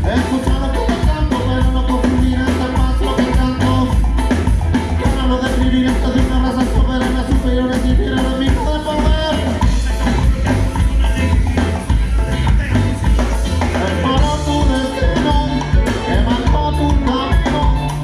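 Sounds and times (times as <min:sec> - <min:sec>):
band playing ska tune: 0:00.0 - 0:18.0.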